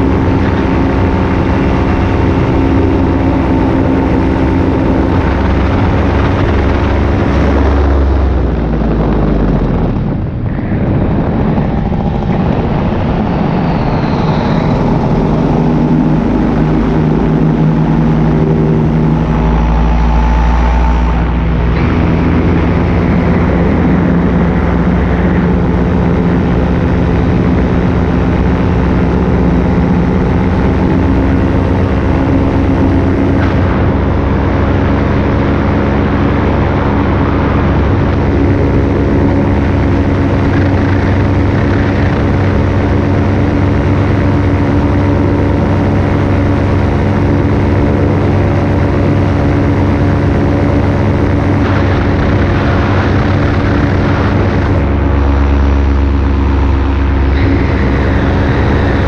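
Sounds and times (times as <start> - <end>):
paramotor engine droning: 0.0 - 59.0.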